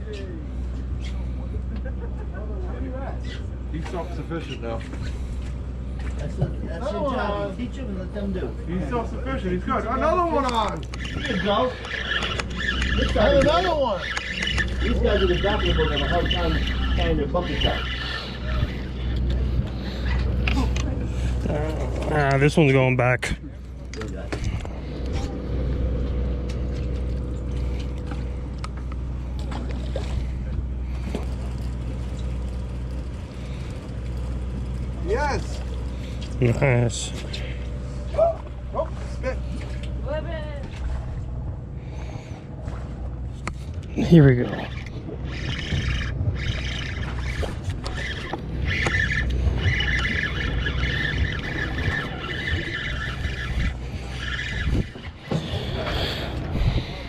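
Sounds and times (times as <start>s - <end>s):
boat engine droning: 0.0s - 57.0s
wavering whine: 3.1s - 57.0s.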